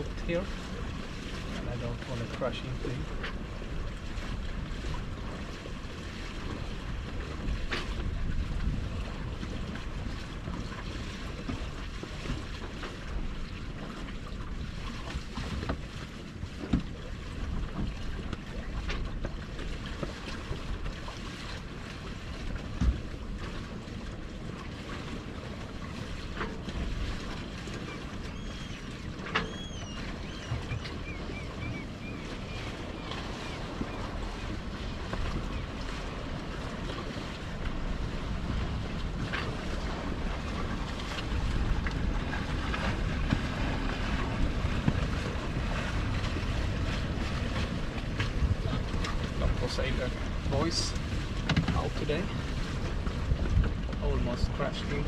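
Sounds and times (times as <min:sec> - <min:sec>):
boat knocks: 0:00.0 - 0:55.0
water rushing along hull: 0:00.0 - 0:55.0
wind buffeting microphone: 0:00.0 - 0:55.0.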